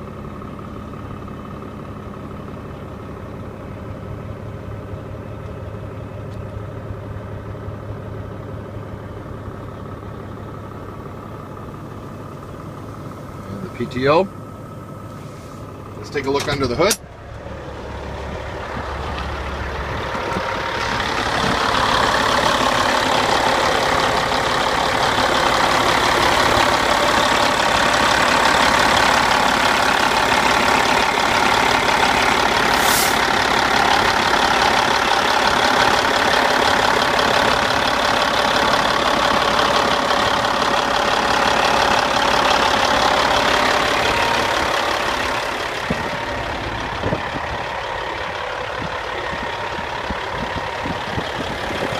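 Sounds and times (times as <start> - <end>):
diesel engine idling: 0.0 - 51.9.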